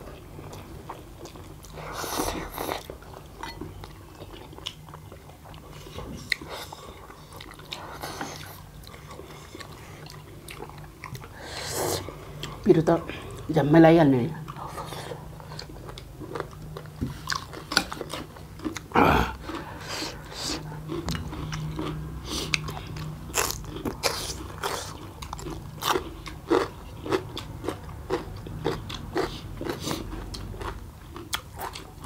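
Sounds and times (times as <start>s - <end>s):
crunching and chewing food: 0.0s - 13.6s, 14.4s - 32.0s.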